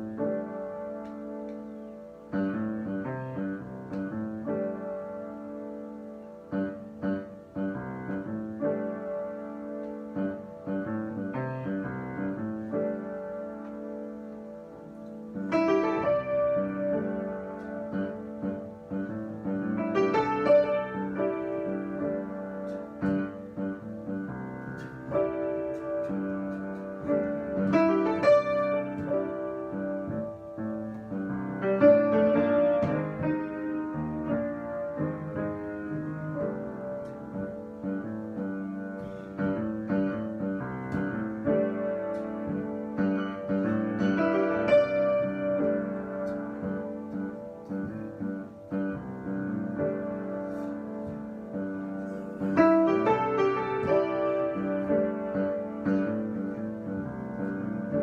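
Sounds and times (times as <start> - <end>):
solo piano improvisation: 0.0 - 58.0.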